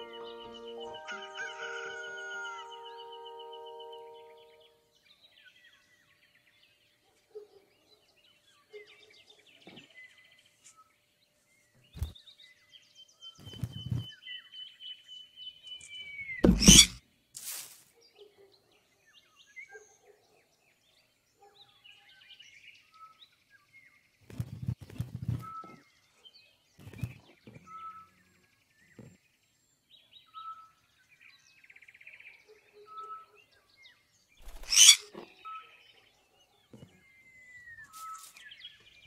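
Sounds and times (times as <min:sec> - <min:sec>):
faint birdsong: 0:00.0 - 0:39.0.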